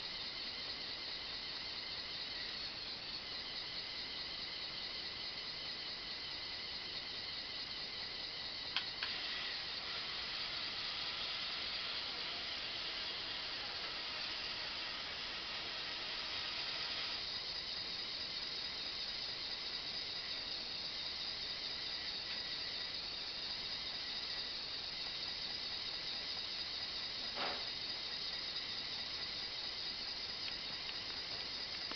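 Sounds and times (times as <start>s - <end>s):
high-pitched hiss: 0.0s - 31.9s
small electric motors whirring: 0.0s - 31.9s.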